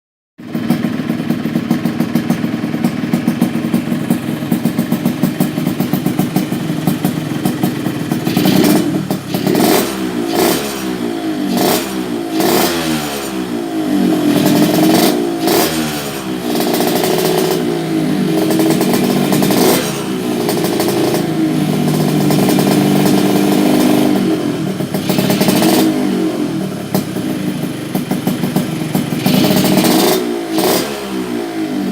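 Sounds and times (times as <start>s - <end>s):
motorcycle engine idling: 0.4s - 31.9s
engine revving in throttle blips: 4.4s - 31.9s.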